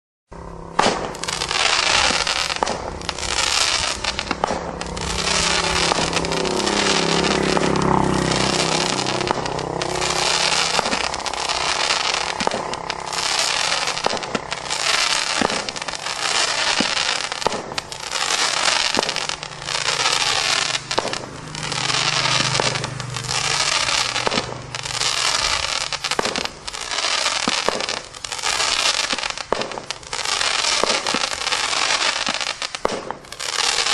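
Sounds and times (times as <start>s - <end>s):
crackling firework fizz: 0.4s - 33.9s
firework shots: 0.4s - 33.9s.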